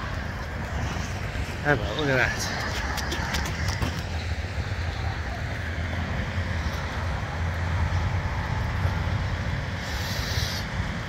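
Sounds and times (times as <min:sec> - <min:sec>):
low vehicle rumble: 0:00.0 - 0:11.0
wind noise: 0:00.0 - 0:11.0.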